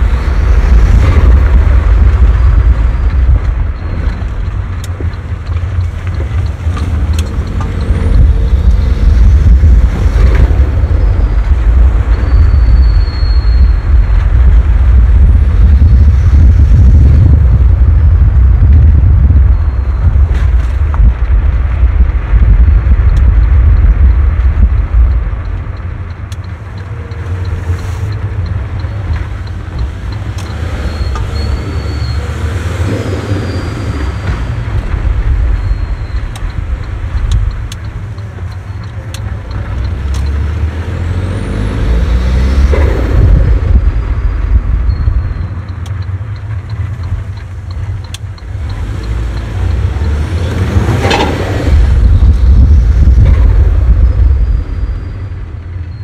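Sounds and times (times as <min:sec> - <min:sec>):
car engine: 0:00.0 - 0:56.0
tyres rumbling over rough road: 0:00.0 - 0:56.0.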